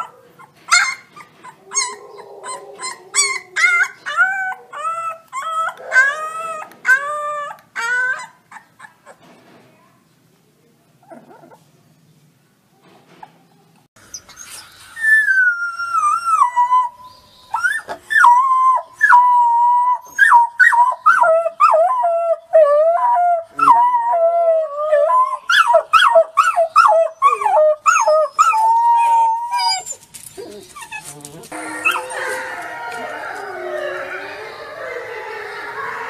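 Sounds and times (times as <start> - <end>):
wolf pups howling: 0.0 - 8.6, 15.0 - 36.0.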